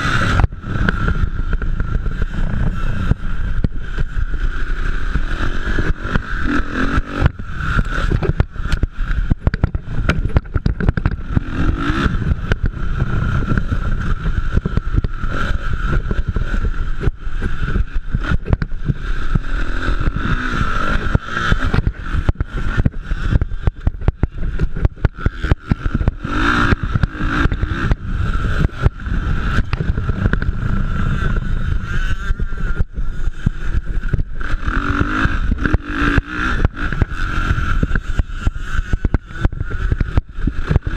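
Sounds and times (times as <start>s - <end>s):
wind buffeting on microphone: 0.0s - 20.3s, 20.9s - 40.9s
motorcycle engines revving: 0.0s - 40.9s.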